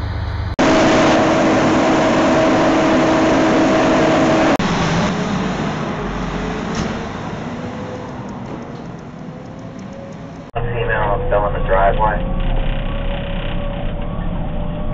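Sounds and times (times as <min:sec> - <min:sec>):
fire truck engine running: 0:00.0 - 0:14.9
steady siren tone: 0:00.6 - 0:14.9.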